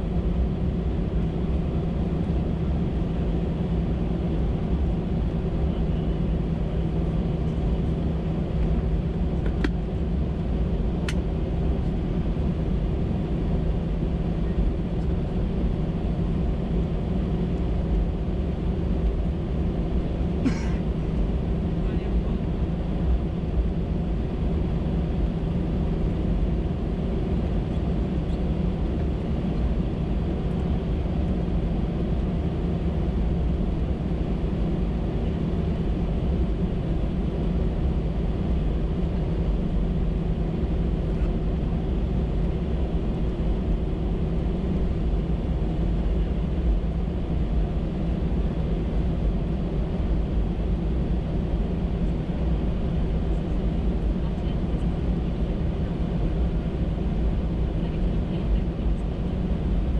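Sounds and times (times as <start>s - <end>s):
aircraft cabin drone: 0.0s - 59.9s.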